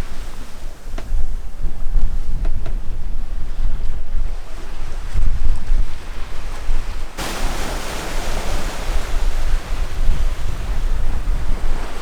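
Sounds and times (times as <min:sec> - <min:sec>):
water rushing past hull: 0:00.0 - 0:12.0
wind buffeting microphone: 0:00.0 - 0:12.0.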